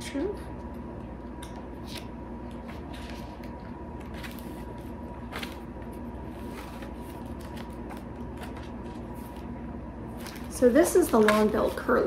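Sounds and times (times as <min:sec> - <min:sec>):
faint steady hum: 0:00.0 - 0:12.0
book pages turning: 0:01.7 - 0:12.0.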